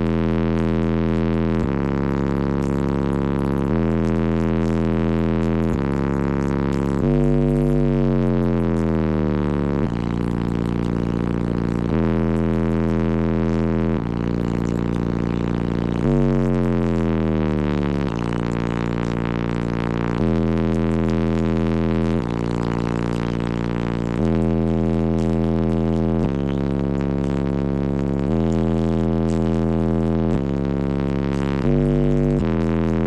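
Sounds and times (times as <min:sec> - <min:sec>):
subwoofers playing bass-heavy music: 0:00.0 - 0:33.0.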